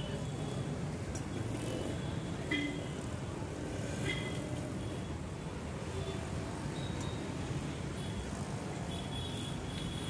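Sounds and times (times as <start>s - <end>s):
street noise rumble: 0.0s - 10.0s.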